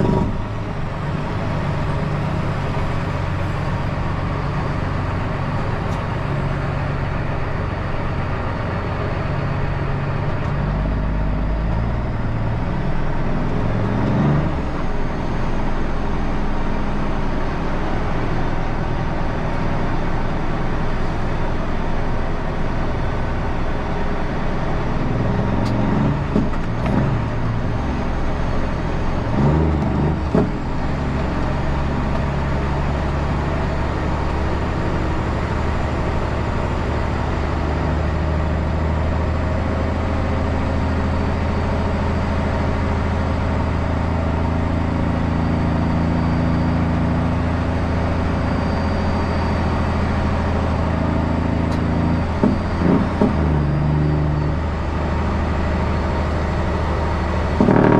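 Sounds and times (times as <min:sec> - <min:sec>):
heavy truck engine running: 0:00.0 - 0:57.9.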